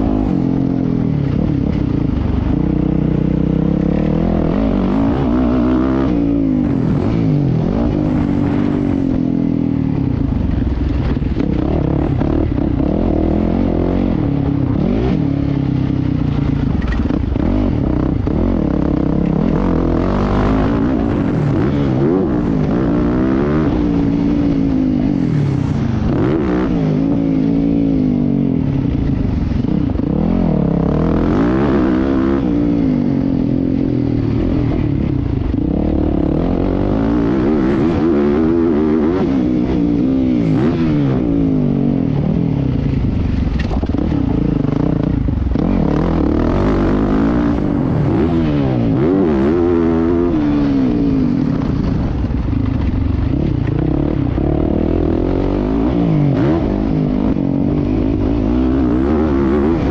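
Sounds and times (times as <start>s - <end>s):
motocross bike engine revving: 10.9s - 59.9s.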